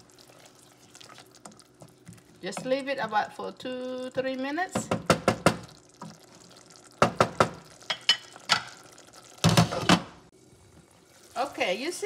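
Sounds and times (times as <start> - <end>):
sauce bubbling: 0.0 - 12.0.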